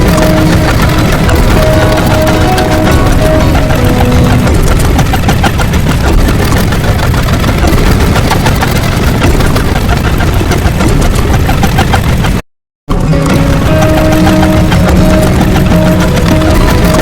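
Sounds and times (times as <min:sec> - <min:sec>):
dense rumbling with crackling clicks: 0:00.0 - 0:17.0.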